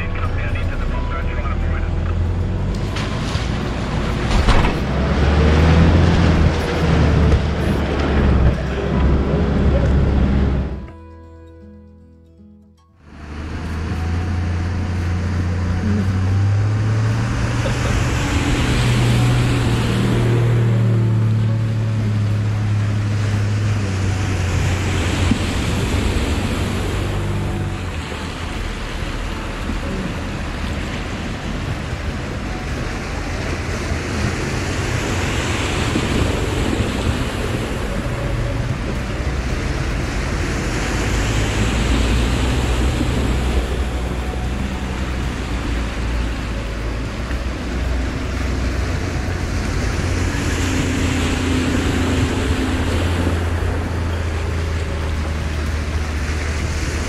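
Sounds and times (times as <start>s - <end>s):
river water rushing: 0.0s - 10.9s, 13.0s - 57.0s
vehicles splashing through water: 0.0s - 10.9s, 13.0s - 57.0s
vehicle engines running: 0.0s - 11.1s, 13.0s - 57.0s.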